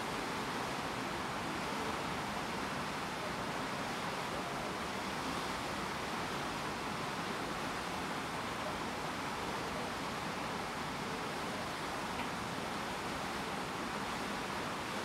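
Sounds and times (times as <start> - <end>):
water streaming past ship: 0.0 - 15.0.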